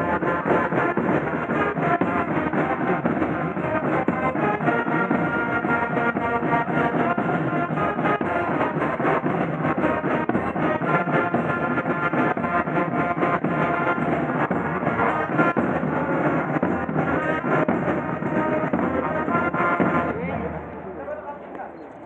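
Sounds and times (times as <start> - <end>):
snare and bass drums: 0.0 - 20.6
marching band brass: 0.0 - 21.0.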